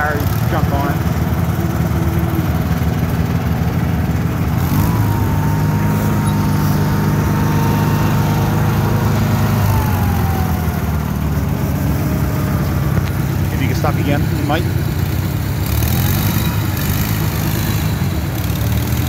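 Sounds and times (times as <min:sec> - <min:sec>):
thin whine: 0:00.0 - 0:18.8
garden tractor engine running: 0:00.0 - 0:19.0.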